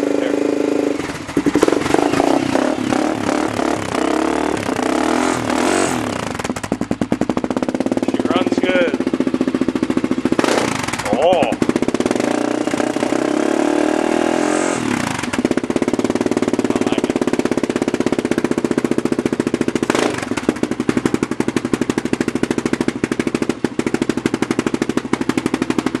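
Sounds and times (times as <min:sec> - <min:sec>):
atv engine chugging idle: 0:00.0 - 0:26.0.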